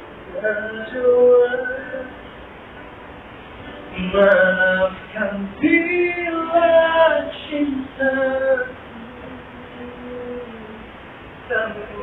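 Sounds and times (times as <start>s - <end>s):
woman singing slow song: 0.3s - 2.3s, 3.9s - 12.0s.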